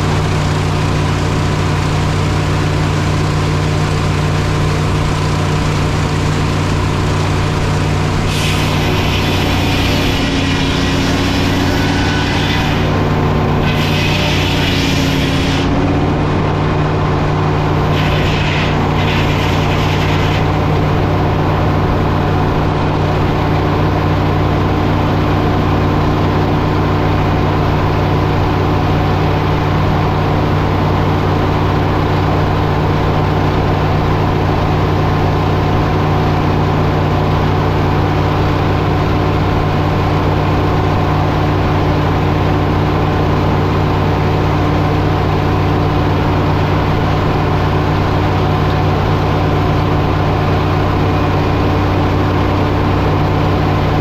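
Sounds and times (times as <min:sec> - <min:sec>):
sawmill engine running steadily: 0:00.0 - 0:54.0.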